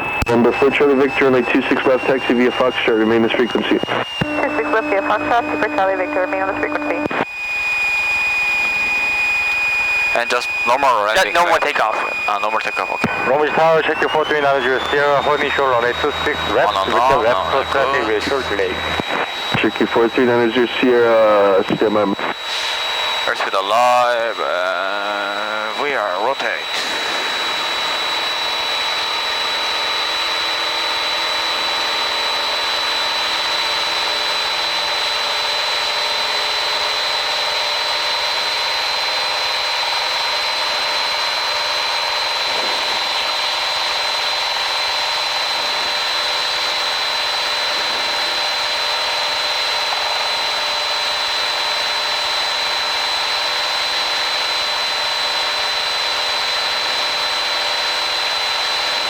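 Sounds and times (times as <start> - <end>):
high-pitched whine: 0.0 - 59.0
propeller plane engine drone: 0.0 - 59.0.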